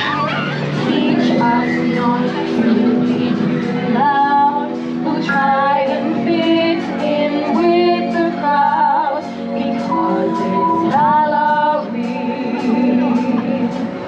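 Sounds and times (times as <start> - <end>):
held instrumental notes: 0.0 - 14.0
woman singing: 0.0 - 14.0.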